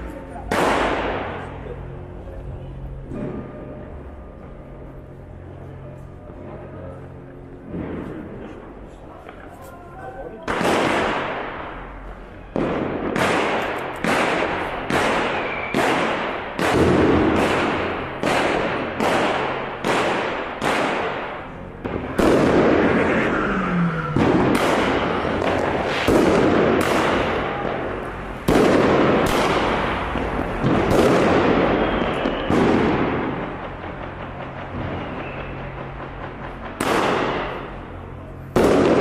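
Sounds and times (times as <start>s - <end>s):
fireworks and firecrackers banging: 0.0s - 39.0s.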